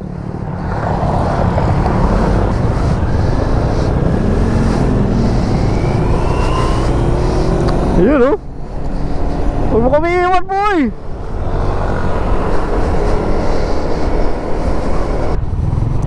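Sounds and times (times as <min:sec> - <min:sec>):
motorcycle engine accelerating: 0:00.0 - 0:16.0
wind and road noise: 0:00.0 - 0:16.0.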